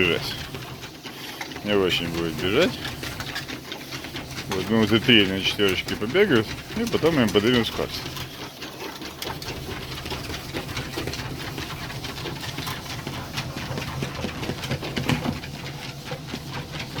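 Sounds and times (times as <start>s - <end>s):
treadmill motor hum: 0.0s - 17.0s.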